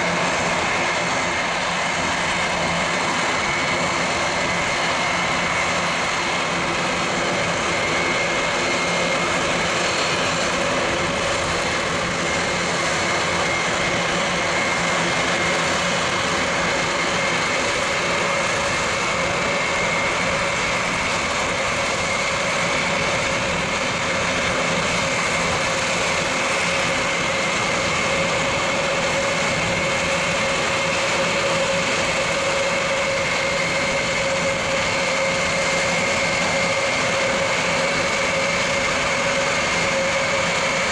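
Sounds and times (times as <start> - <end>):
high engine whine: 0.0 - 40.9
loud propeller drone: 0.0 - 40.9.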